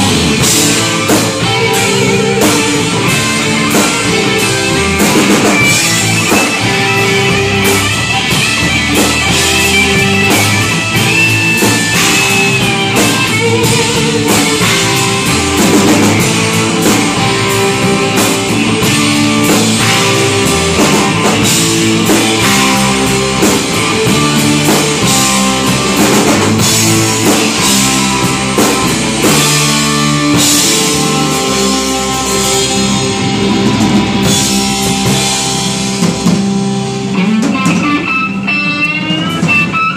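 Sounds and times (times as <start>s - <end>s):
high guitar line bending: 0.0s - 39.9s
live rock band playing: 0.0s - 39.9s.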